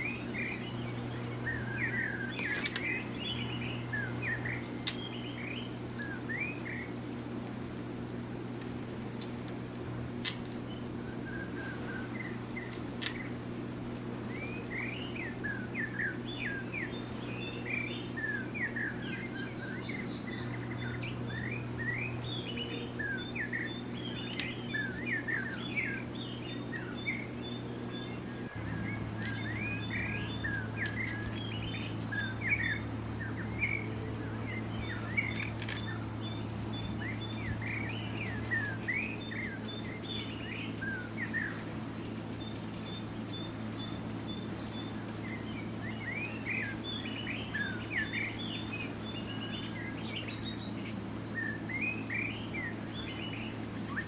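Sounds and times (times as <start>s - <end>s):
small birds chirping: 0.0s - 54.0s
steady low hum: 0.0s - 54.0s.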